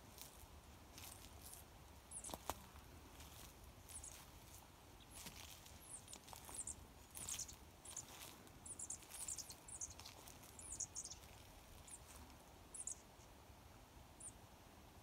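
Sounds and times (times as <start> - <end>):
small birds chirping: 0.1 - 13.4, 14.2 - 14.4.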